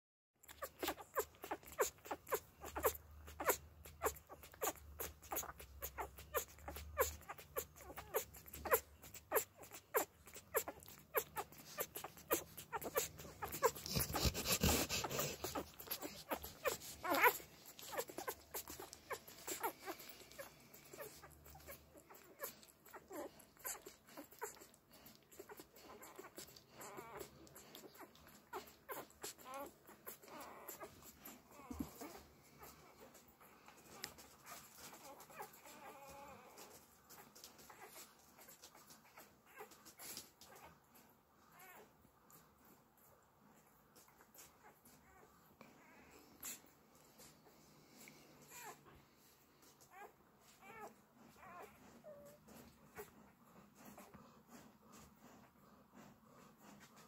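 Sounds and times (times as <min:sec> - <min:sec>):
puppies suckling: 0:00.4 - 0:57.0
rustle: 0:00.5 - 0:57.0.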